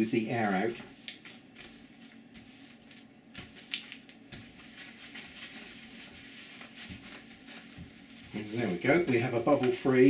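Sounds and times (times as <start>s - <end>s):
cloth rubbing on paper: 0.3s - 10.0s
paper rustling: 0.4s - 10.0s.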